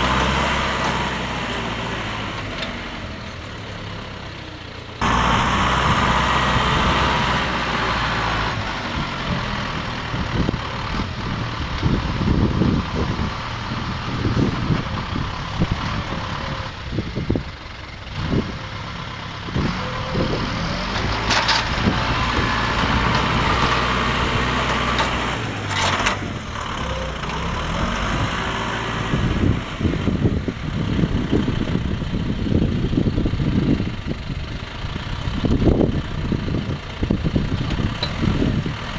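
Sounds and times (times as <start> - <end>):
tractor engine rumble: 0.0 - 38.9.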